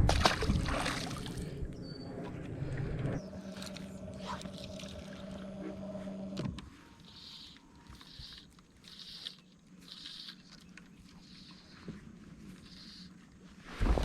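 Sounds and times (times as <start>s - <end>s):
small boat motor humming: 0.7s - 13.5s.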